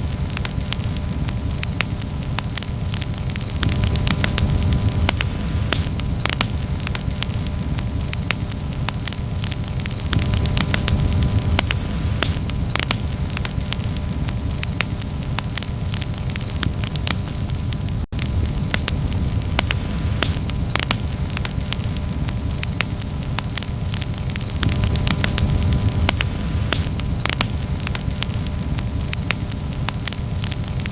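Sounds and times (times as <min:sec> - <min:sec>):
campfire crackling: 0:00.0 - 0:30.9
low rumble of flames: 0:00.0 - 0:30.9
sharp pops of fire: 0:00.0 - 0:30.9.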